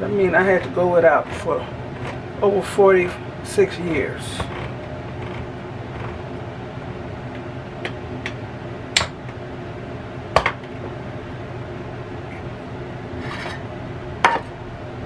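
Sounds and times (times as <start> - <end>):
air fryer oven hum: 0.0 - 15.0.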